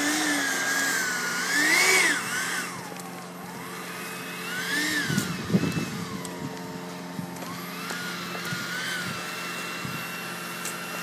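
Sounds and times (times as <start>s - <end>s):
model jet fan whine: 0.0s - 11.0s.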